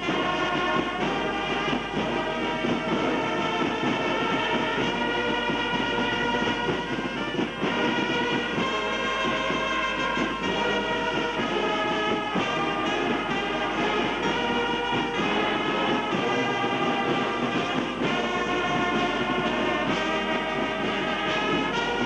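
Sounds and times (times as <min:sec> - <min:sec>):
brass band playing held notes: 0:00.0 - 0:22.0.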